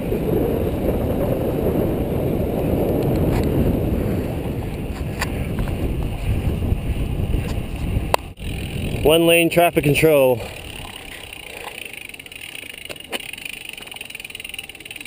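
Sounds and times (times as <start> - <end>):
wind buffeting microphone: 0.0 - 14.1
road noise: 0.0 - 15.0.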